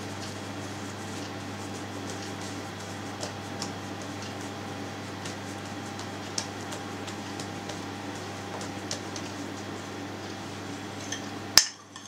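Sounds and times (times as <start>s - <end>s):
hands patting dough: 0.0s - 11.4s
steady low hum: 0.0s - 12.0s.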